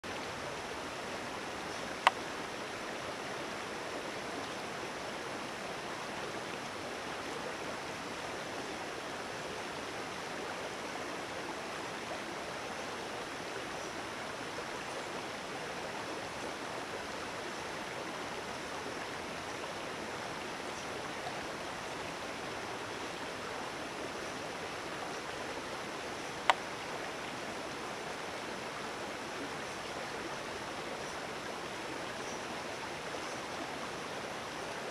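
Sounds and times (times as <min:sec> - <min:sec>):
creek water rushing: 0:00.0 - 0:34.9.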